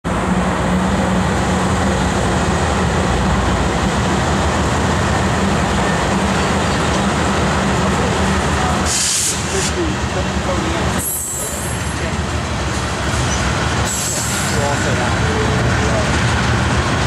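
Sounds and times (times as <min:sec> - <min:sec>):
freight locomotives passing: 0:00.0 - 0:17.0.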